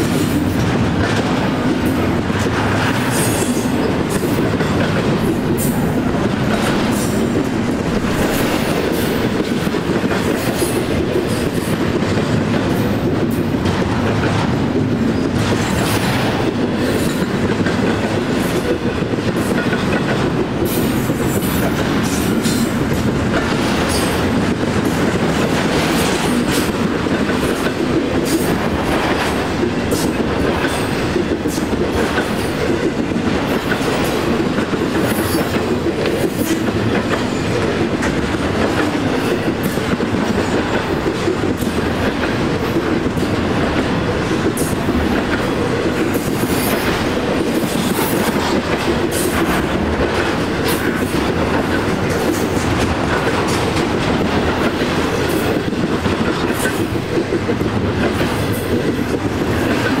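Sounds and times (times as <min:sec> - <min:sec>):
clicks and clanks of train cars: 0:00.0 - 1:00.0
train wheels rumbling on rail: 0:00.0 - 1:00.0.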